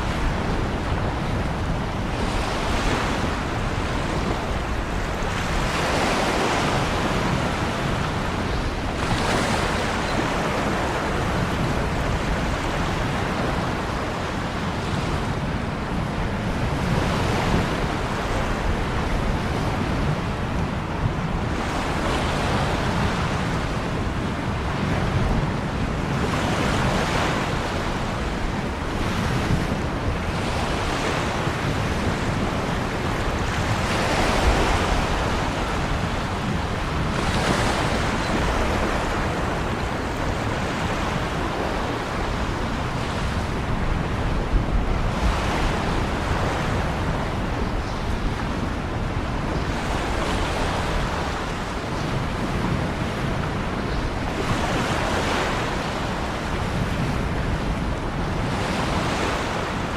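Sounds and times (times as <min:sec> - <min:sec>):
ocean waves breaking: 0:00.0 - 0:59.9
wind: 0:00.0 - 0:59.9.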